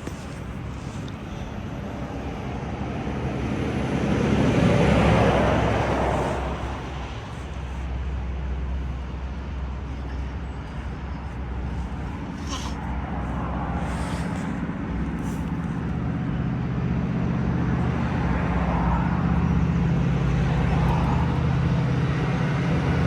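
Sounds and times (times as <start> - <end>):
steady low rumble: 0.0 - 23.0
vehicle passing by: 0.0 - 23.0.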